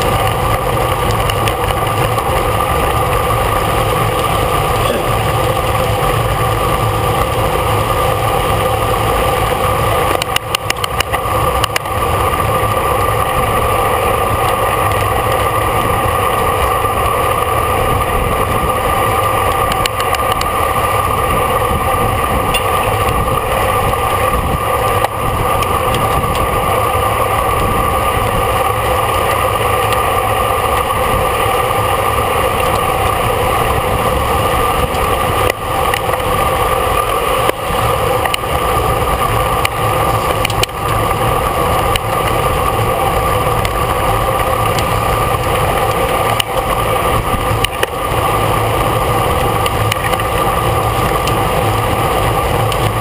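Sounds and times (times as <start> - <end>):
bicycle fine ticking: 0.0 - 53.0
wind and road noise: 0.0 - 53.0.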